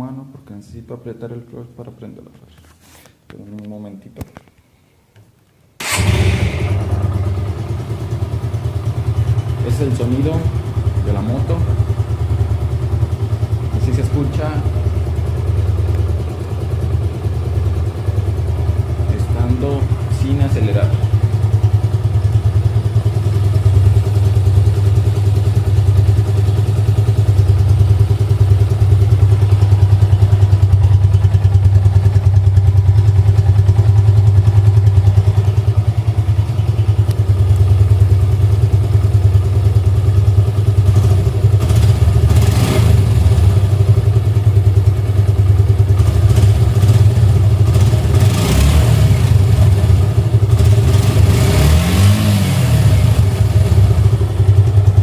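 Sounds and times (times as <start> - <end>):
motorcycle engine idling: 5.8 - 55.0.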